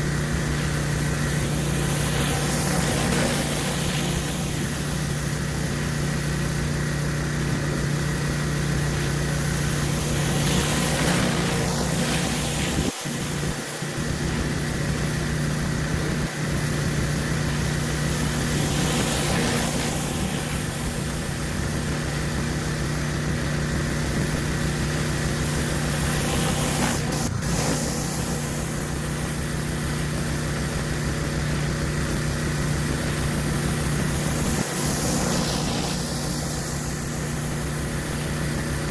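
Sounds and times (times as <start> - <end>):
high-pressure water hissing on concrete: 0.0 - 38.9
pressure washer engine running: 0.0 - 38.9.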